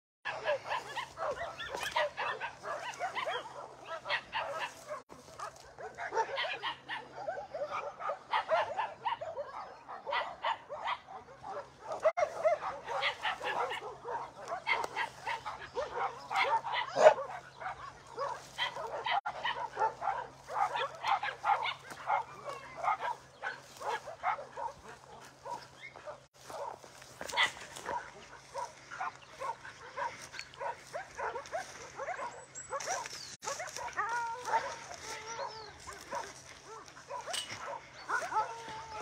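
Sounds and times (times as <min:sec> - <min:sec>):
dogs barking and yelping: 0:00.3 - 0:39.0.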